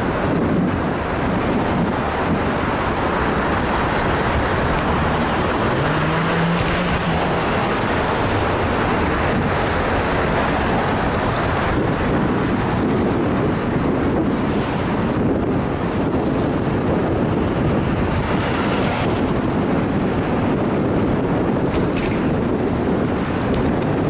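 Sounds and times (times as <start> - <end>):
road noise: 0.0 - 24.0
wind rush on microphone: 0.0 - 24.0.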